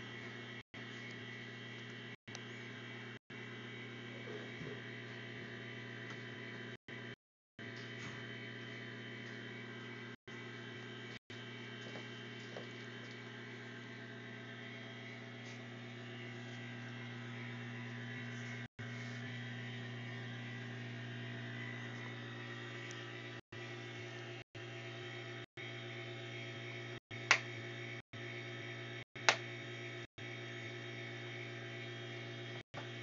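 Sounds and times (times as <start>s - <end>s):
buzzing electric hum: 0.0s - 33.0s.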